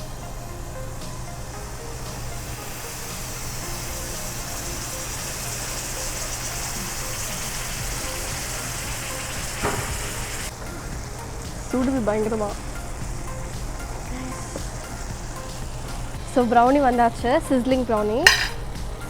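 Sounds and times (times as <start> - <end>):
food sizzling on hot plate: 0.0 - 18.9.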